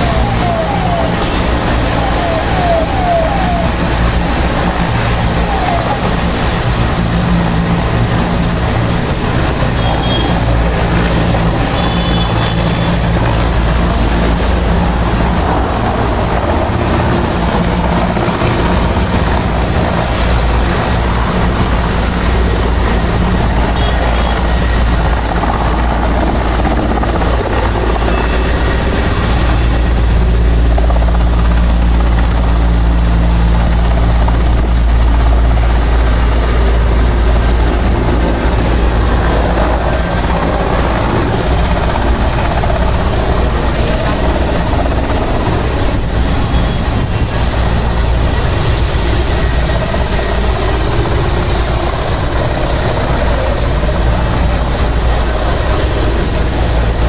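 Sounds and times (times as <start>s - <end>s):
helicopter rotor beating: 0.0s - 57.0s
turbine engines running: 0.0s - 57.0s.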